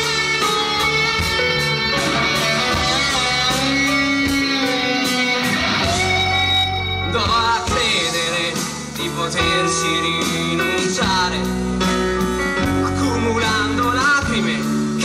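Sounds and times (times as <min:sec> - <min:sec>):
pop band playing live: 0:00.0 - 0:15.0.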